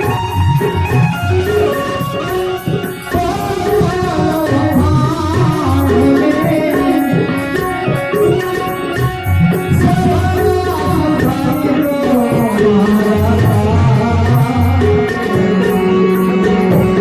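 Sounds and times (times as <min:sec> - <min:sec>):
hand drums: 0:00.0 - 0:17.0
melodic instruments: 0:00.0 - 0:17.0.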